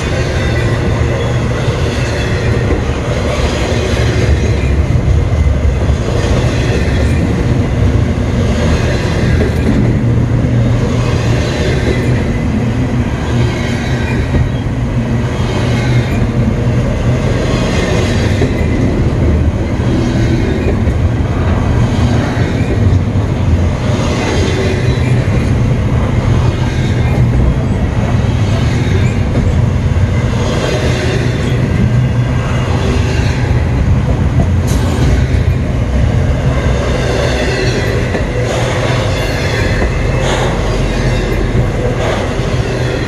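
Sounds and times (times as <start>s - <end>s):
train cars rattling: 0.0s - 43.0s
train wheels rumbling on rails: 0.0s - 43.0s.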